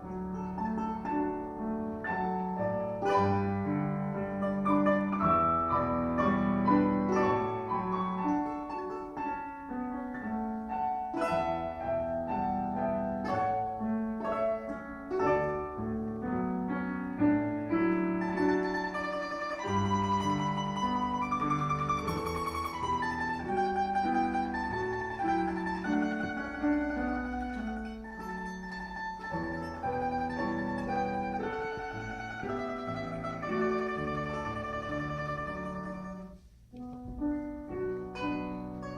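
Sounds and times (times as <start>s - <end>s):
domra melody: 0.0s - 38.9s
piano accompaniment: 0.0s - 38.9s.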